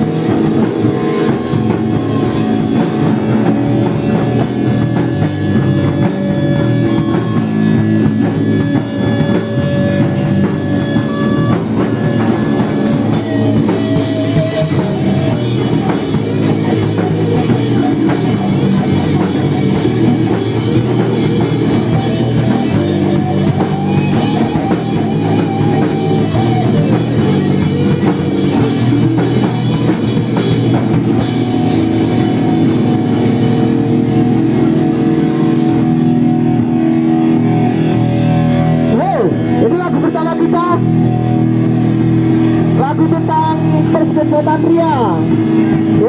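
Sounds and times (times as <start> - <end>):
bass guitar: 0.0 - 46.0
drum kit: 0.0 - 46.0
electric guitars: 0.0 - 46.0.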